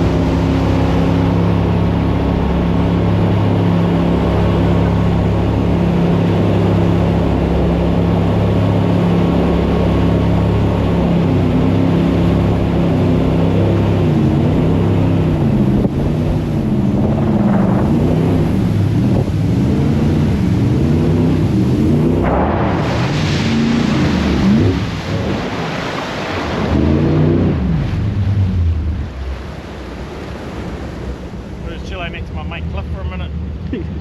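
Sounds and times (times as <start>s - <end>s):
steady rushing noise: 0.0s - 33.7s
jet boat engine revving: 0.0s - 34.0s.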